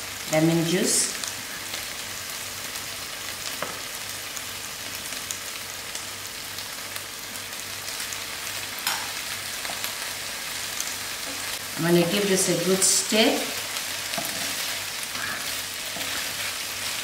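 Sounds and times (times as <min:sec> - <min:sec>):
giblets sizzling in oil: 0:00.0 - 0:17.0.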